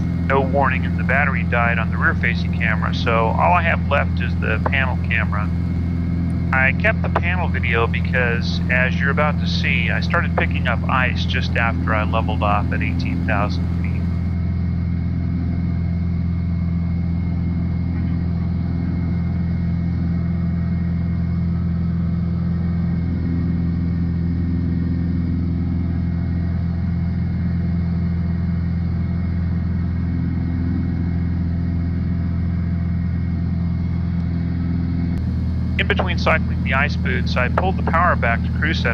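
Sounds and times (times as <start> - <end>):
aircraft engine droning in cabin: 0.0 - 38.9.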